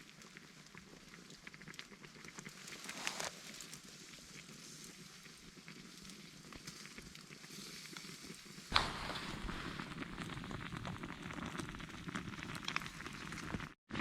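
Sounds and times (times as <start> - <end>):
campfire crackling: 0.0 - 14.0
sharp crack of fire: 1.7 - 5.0, 5.7 - 14.0.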